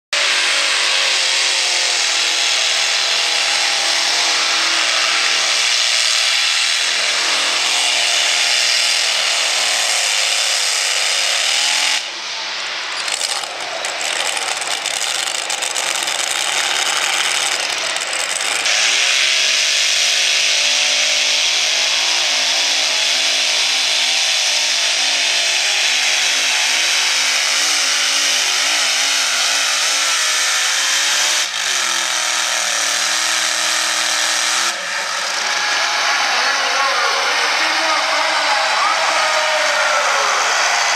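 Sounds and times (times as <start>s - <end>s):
pulling tractor engines roaring: 0.2s - 40.9s.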